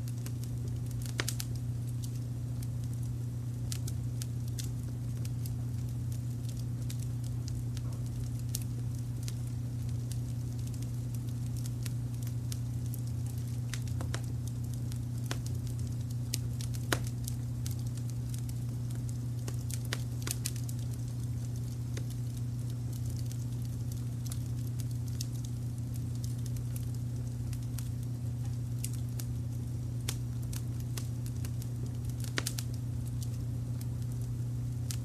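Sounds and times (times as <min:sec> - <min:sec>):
sharp pops and snaps: 0:00.0 - 0:35.0
wood fire crackling: 0:00.0 - 0:35.0.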